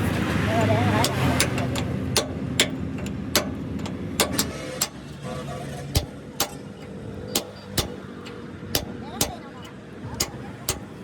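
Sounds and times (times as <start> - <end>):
low engine hum: 0.0 - 11.0
sharp knocks: 1.0 - 5.2, 5.9 - 11.0.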